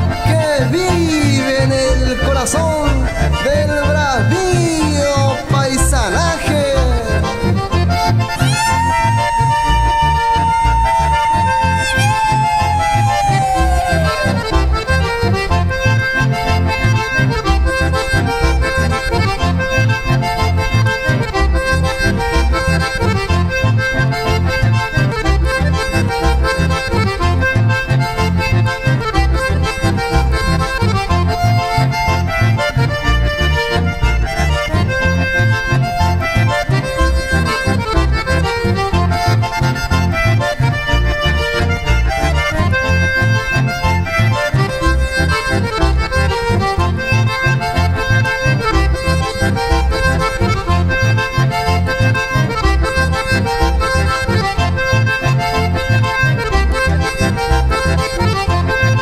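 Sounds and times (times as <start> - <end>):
accordion folk music: 0.0 - 59.0
alternating low bass notes: 0.0 - 59.0.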